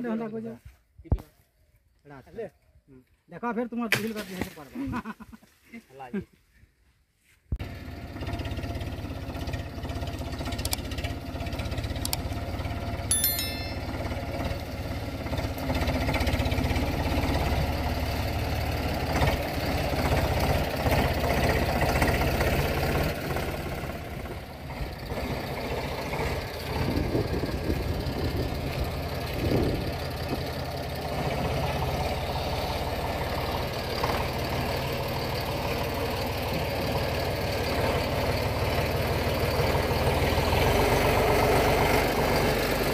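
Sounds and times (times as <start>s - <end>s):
tractor diesel engine under load: 7.6s - 13.1s, 14.0s - 42.9s.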